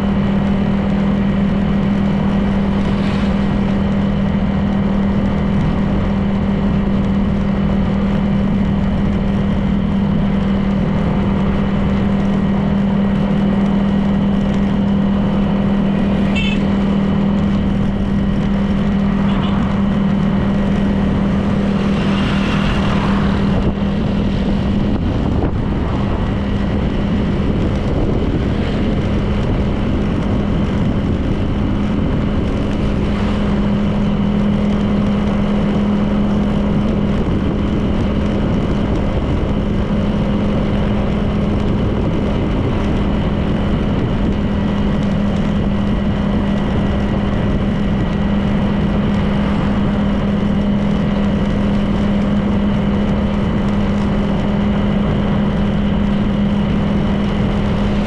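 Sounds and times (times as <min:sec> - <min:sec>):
scooter engine cruising: 0:00.0 - 0:58.0
wind and road noise: 0:00.0 - 0:58.0.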